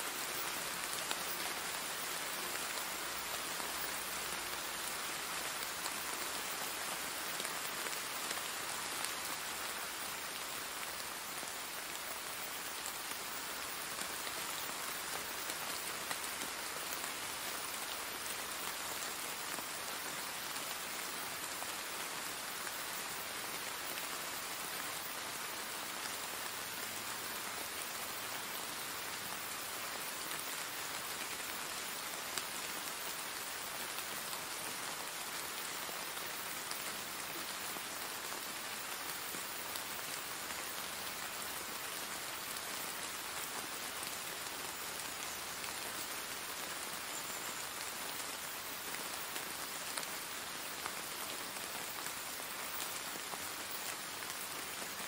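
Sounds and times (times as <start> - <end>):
rain-like hiss: 0.0 - 55.0.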